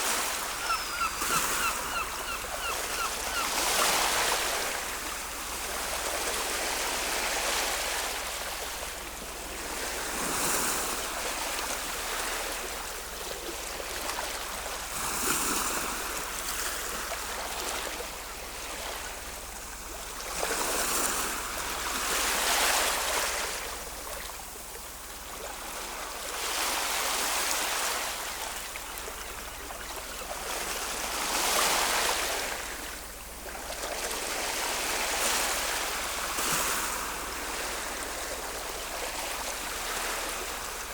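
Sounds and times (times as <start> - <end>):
ocean waves breaking: 0.0 - 24.2, 25.7 - 40.9.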